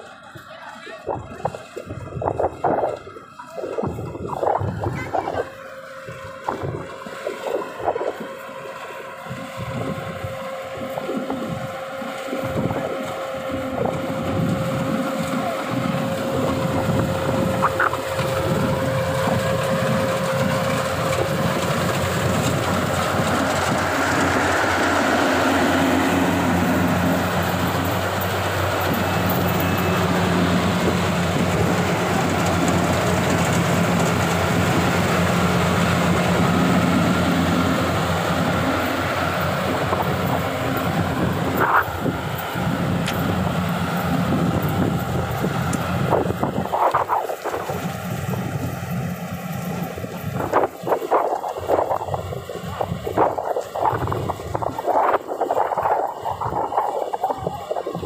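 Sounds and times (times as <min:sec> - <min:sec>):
combine harvester machinery drone: 0:00.0 - 0:58.0.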